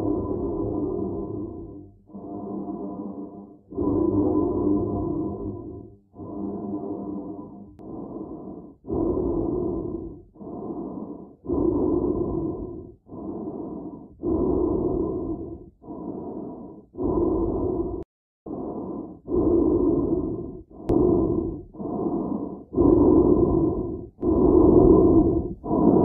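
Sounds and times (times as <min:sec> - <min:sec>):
slow muffled breathing: 0:00.0 - 0:26.0.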